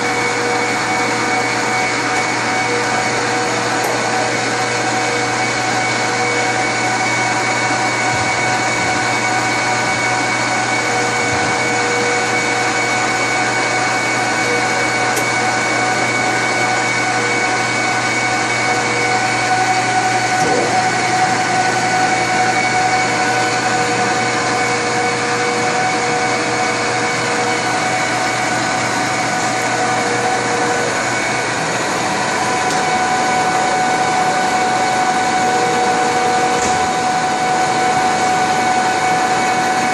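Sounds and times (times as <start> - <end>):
industrial lathe whining: 0.0 - 39.9.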